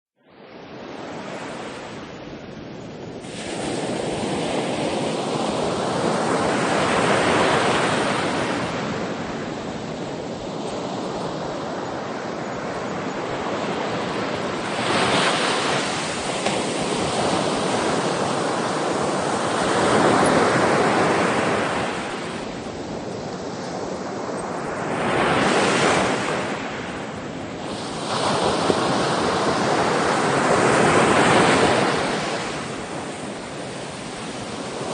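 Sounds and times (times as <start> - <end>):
wind on microphone: 0.3 - 34.9
ocean waves breaking on shore: 0.4 - 34.9.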